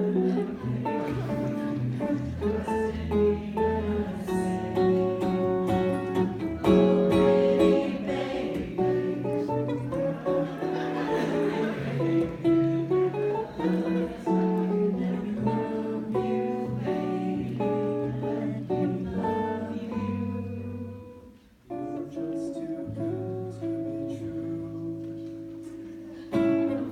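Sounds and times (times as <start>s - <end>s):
solo jazz guitar: 0.0s - 26.9s.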